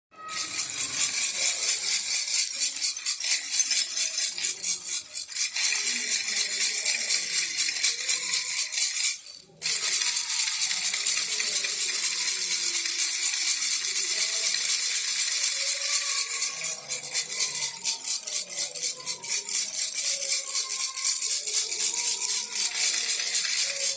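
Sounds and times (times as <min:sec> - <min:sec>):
baby rattle shaken: 0:00.2 - 0:23.9.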